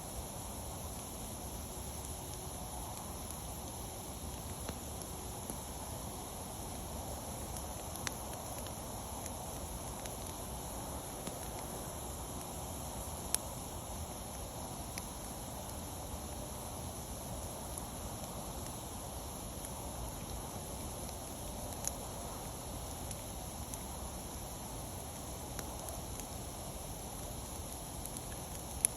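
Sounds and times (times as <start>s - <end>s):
wood fire hissing: 0.0s - 28.9s.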